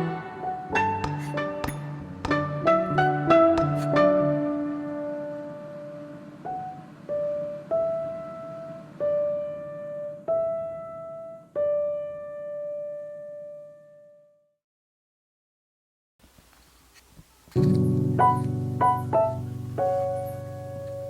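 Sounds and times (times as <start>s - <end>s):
slow piano notes: 0.0s - 14.4s, 17.5s - 21.0s.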